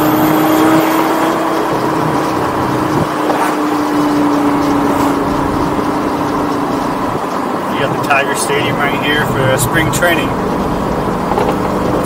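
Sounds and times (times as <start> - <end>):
car engine droning at cruise: 0.0 - 12.0
road and tyre noise: 0.0 - 12.0.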